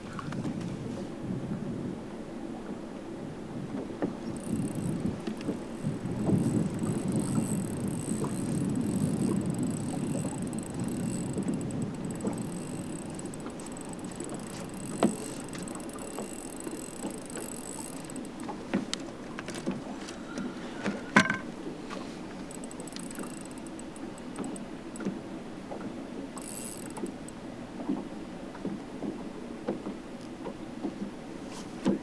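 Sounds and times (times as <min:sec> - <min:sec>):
rushing water and wind: 0:00.0 - 0:32.0.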